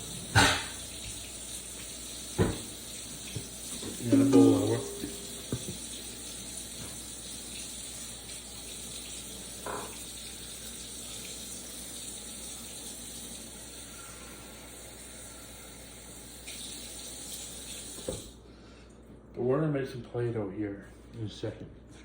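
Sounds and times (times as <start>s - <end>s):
water running from tap: 0.0s - 18.4s.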